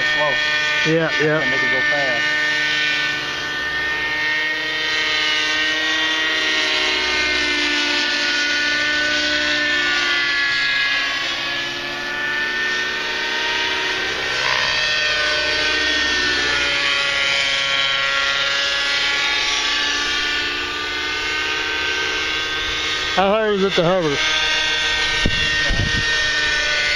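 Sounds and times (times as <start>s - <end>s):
rc helicopter engine whine: 0.0s - 26.9s.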